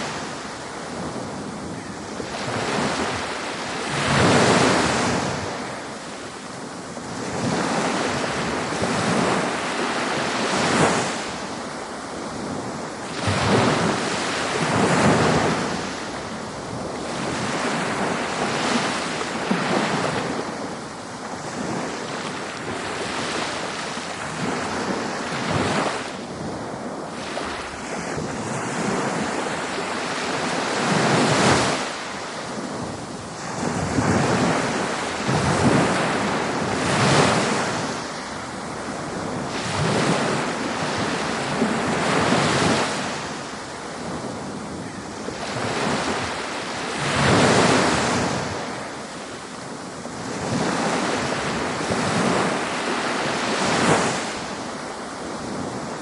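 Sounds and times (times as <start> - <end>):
ocean waves breaking: 0.0 - 56.0
wind on microphone: 0.0 - 56.0.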